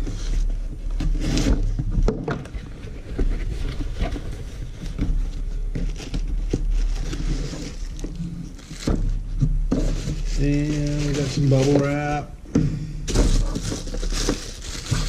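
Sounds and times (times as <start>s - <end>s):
cardboard and wrapping rustling: 0.0s - 12.4s, 13.0s - 15.0s.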